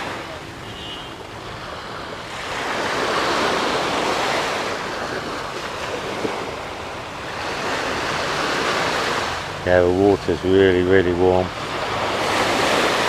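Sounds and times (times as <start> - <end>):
sea waves washing on sand: 0.0 - 13.0.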